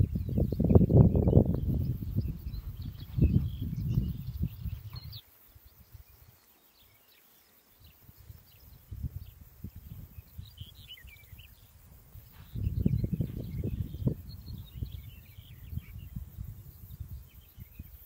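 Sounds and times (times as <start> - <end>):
wind buffeting microphone: 0.0 - 6.4, 7.8 - 18.0
small birds chirping: 0.0 - 18.0.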